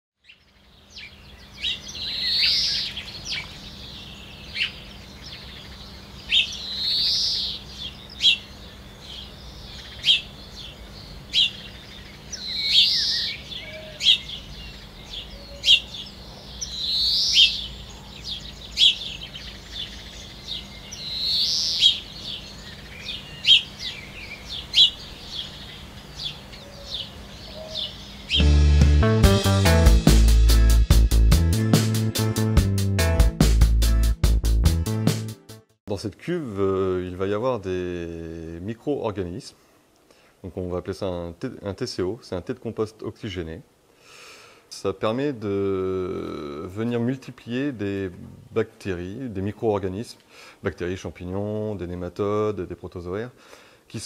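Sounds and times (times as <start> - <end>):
birds singing: 0.2 - 28.7, 36.6 - 54.0.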